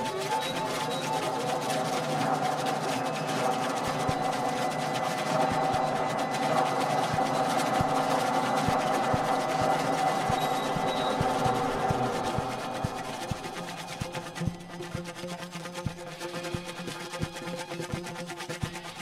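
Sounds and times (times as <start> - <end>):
low hum: 0.0 - 16.8
layered drone of sustained tones: 0.0 - 19.0.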